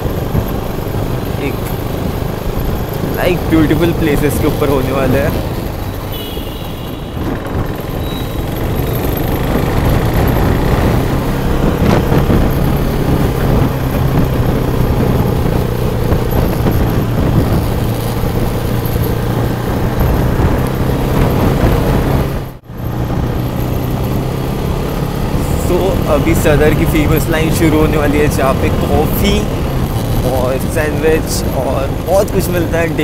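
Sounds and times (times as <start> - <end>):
motorcycle engine running: 0.0 - 33.0
road noise: 0.0 - 33.0
wind: 0.0 - 33.0.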